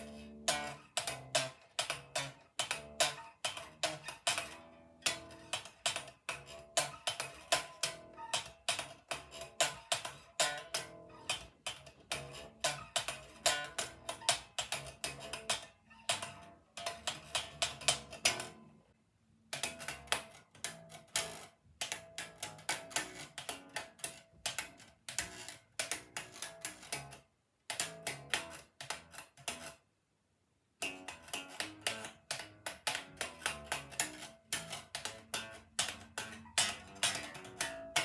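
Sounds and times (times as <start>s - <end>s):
unplugged bass slapping and popping: 0.0s - 18.8s, 19.4s - 29.8s, 30.8s - 38.0s.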